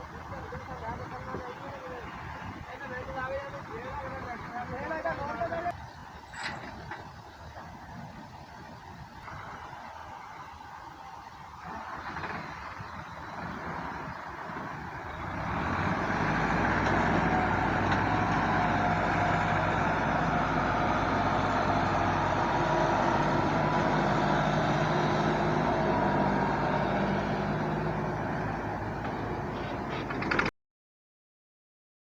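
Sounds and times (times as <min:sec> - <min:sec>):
tractor diesel engine running: 0:00.0 - 0:30.5.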